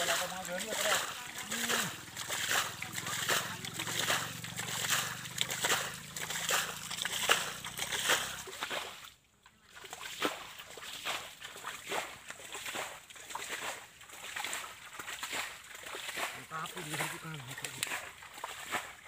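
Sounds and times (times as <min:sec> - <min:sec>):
hands sloshing in water: 0:00.0 - 0:19.0
water splashing from hands: 0:00.0 - 0:19.0.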